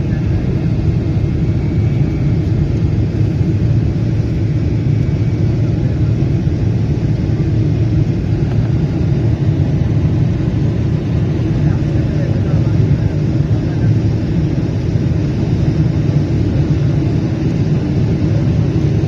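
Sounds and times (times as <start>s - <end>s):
jet engine and airflow rumble: 0.0s - 19.0s.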